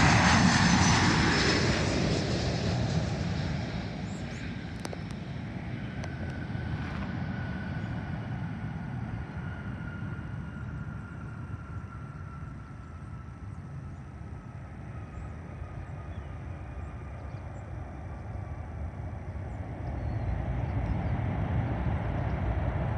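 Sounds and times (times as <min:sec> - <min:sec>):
jet engine whine: 0:00.0 - 0:22.9
jet engines rumbling: 0:00.0 - 0:22.9.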